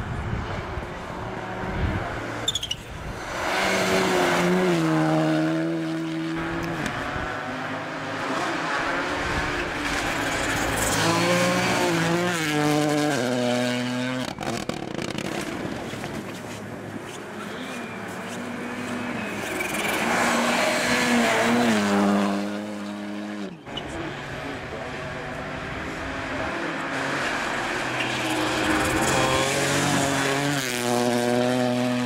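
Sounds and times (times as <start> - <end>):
rally car engine at full throttle: 0.0 - 32.0.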